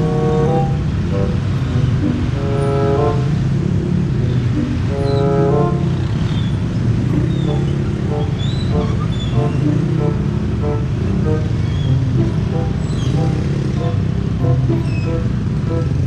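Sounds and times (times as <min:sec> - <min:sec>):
large vehicle engine rumble: 0:00.0 - 0:16.0.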